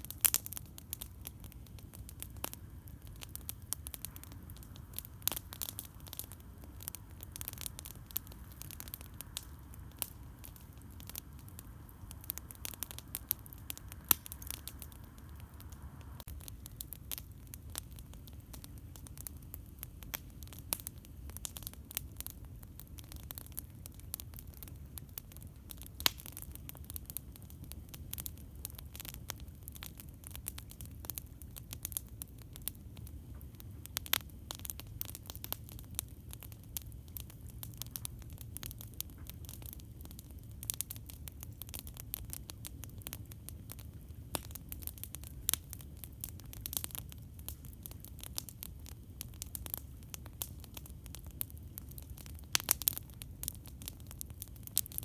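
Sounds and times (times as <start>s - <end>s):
campfire crackling and snapping: 0.0s - 55.0s
low fire rumble: 0.0s - 55.0s.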